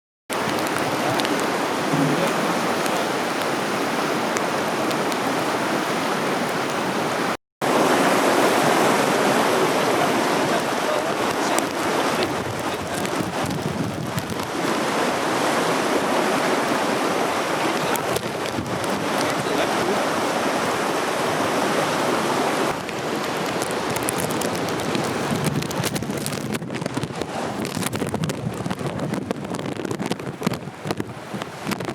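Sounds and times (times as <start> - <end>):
floodwater rushing: 0.3 - 31.9.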